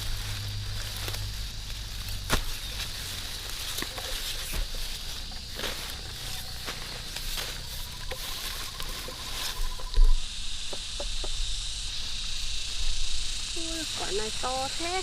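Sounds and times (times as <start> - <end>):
high insect buzz: 0.0 - 15.0
leaves and vines rustling: 0.0 - 15.0.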